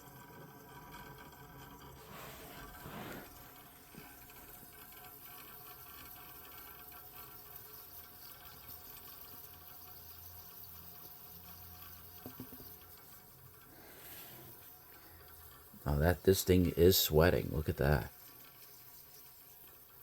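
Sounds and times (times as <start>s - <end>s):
liquid trickling: 0.7s - 20.0s.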